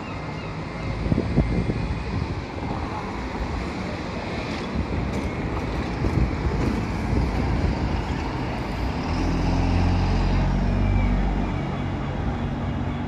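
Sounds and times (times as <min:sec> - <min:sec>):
bus diesel engine passing: 0:00.0 - 0:13.0
street traffic: 0:00.0 - 0:13.0.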